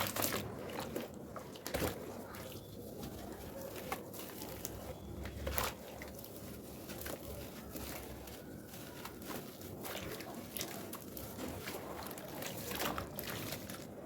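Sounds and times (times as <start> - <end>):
wet sand paste crackling: 0.0 - 14.0.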